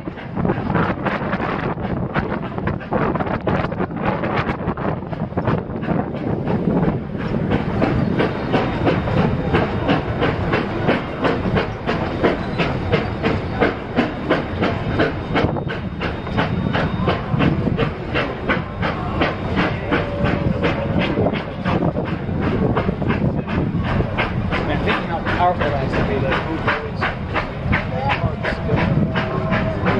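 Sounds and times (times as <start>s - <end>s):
train rumble and rush of air: 0.0s - 29.9s
train wheels clicking over rail joints: 0.0s - 29.9s.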